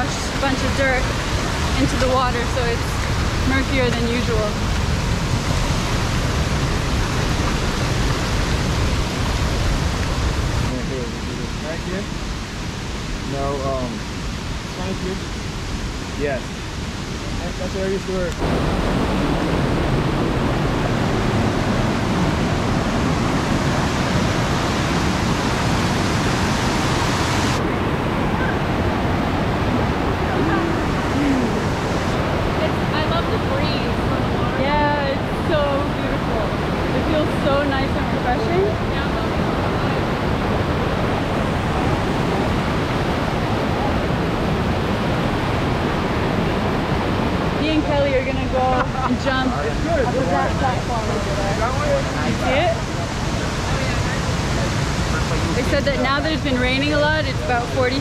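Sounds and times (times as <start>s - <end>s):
white water rushing over rocks: 0.0s - 58.0s.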